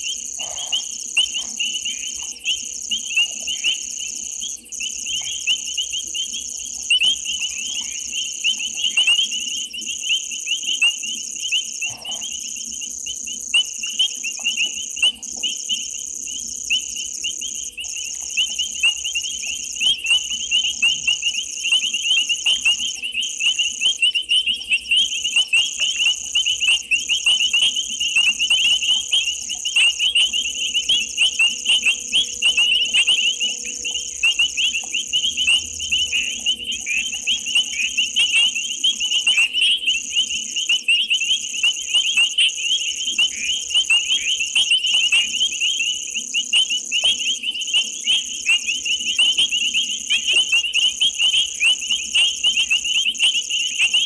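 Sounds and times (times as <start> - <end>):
faint low hum: 0.0 - 47.5
high-pitched pulsing insect chirping: 0.0 - 54.0.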